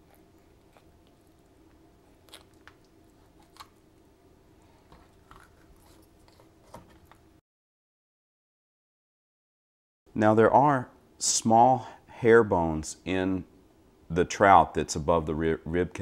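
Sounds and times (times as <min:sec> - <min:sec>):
low steady hum: 0:00.0 - 0:07.4, 0:10.1 - 0:16.0.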